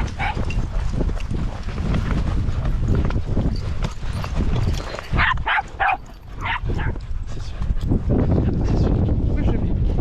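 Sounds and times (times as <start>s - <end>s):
walking footsteps: 0.0s - 8.8s.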